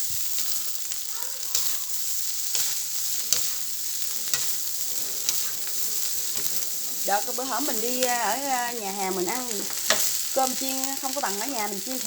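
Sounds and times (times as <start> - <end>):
rice sizzling in a hot pan: 0.0 - 12.0
spatula scraping a pan: 1.5 - 12.0.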